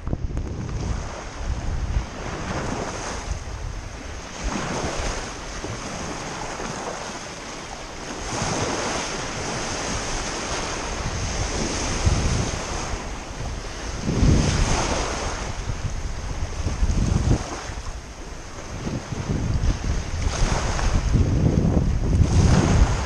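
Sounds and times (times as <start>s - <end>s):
waves breaking on rocky shore: 0.0s - 23.0s
wind gusting on microphone: 0.0s - 23.0s.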